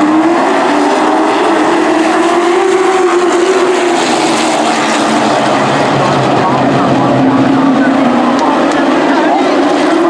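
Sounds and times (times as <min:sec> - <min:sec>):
racing truck engines: 0:00.0 - 0:10.0.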